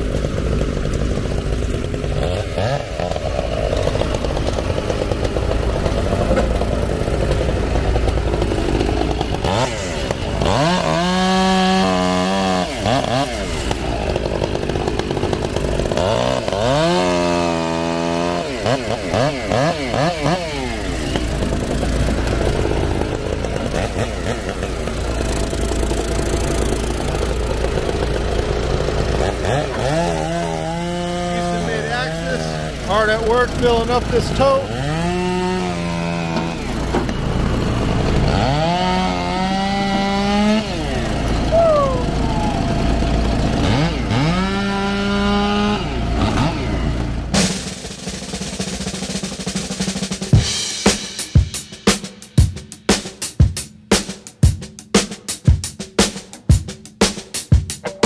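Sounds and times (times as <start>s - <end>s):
engines droning: 0.0s - 47.9s
chainsaw revving and cutting: 0.0s - 52.2s.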